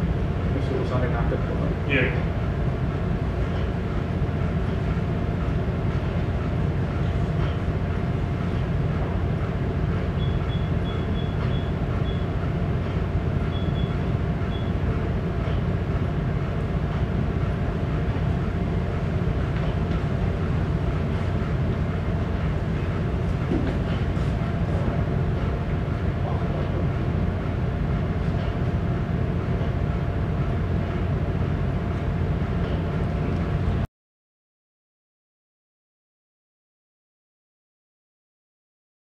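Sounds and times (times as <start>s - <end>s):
ship engine drone: 0.0s - 33.9s.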